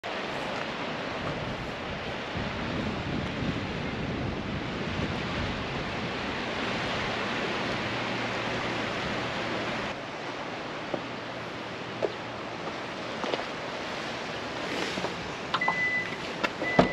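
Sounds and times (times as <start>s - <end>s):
surf washing on beach: 0.0s - 16.9s
wind: 0.0s - 16.9s.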